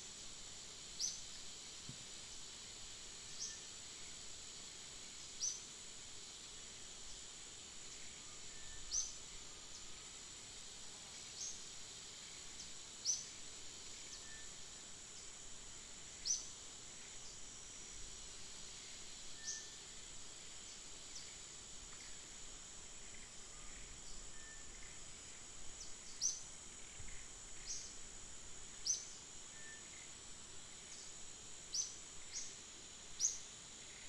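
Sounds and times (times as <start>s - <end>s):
high-pitched insect drone: 0.1s - 34.0s
short high insect chirp: 0.8s - 2.5s, 3.1s - 6.4s, 7.0s - 34.0s.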